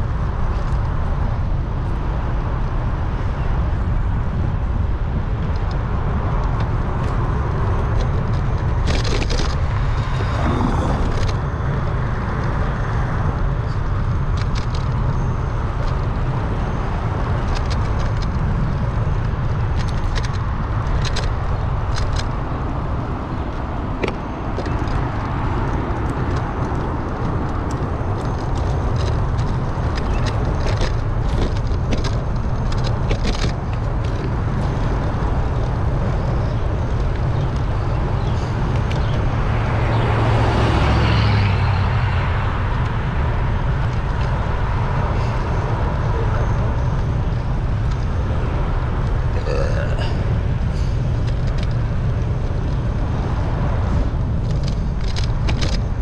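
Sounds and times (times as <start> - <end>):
wind buffeting microphone: 0.0 - 56.0
vehicle passing: 6.2 - 14.0, 15.3 - 56.0.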